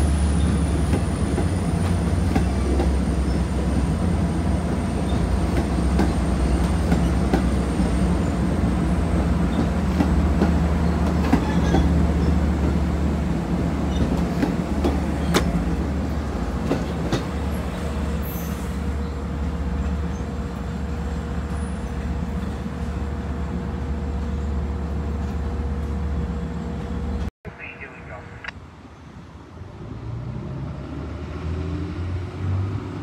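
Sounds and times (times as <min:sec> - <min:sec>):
train low drone: 0:00.0 - 0:33.0.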